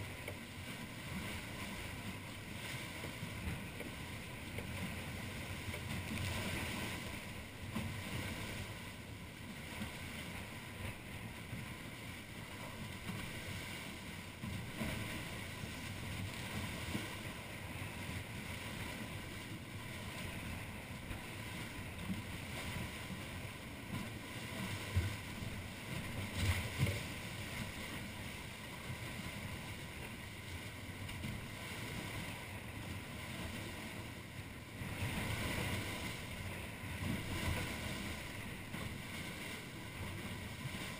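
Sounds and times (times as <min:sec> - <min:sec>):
water slapping against hulls: 0:00.0 - 0:40.9.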